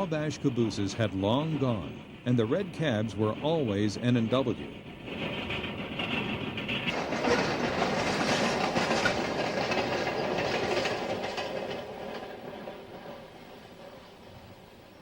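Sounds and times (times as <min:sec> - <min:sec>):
train wheels clattering over rail joints: 0:00.0 - 0:15.0.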